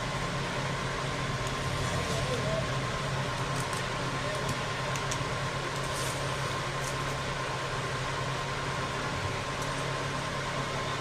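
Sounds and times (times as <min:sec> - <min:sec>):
fan motor humming: 0:00.0 - 0:11.0.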